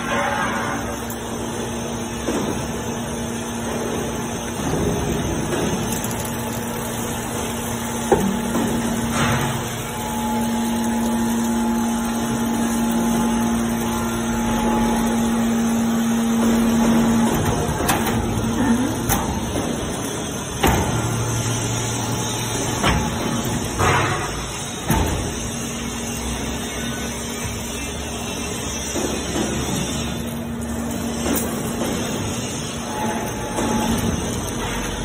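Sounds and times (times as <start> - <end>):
hydraulic baler humming: 0.0 - 35.0.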